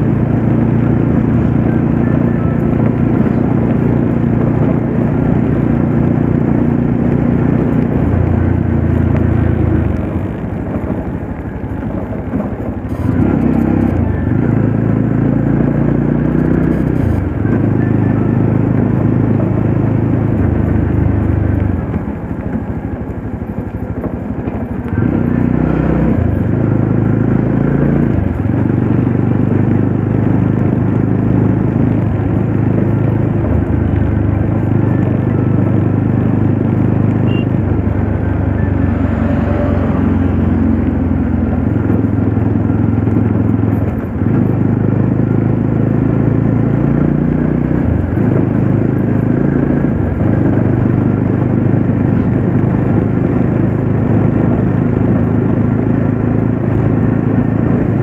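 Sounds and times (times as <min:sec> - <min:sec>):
motorcycle engine running: 0:00.0 - 0:58.0
road noise: 0:00.0 - 0:58.0
wind noise: 0:00.0 - 0:58.0.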